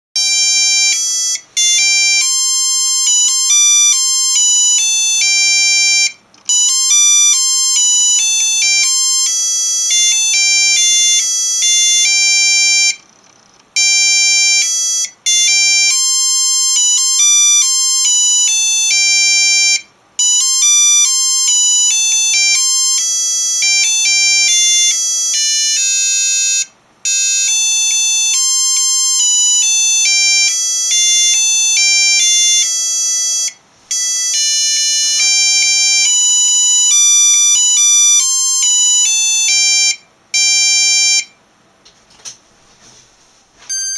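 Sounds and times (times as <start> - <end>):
buzzy electronic ringtone melody: 0.2 - 13.0, 13.8 - 41.3.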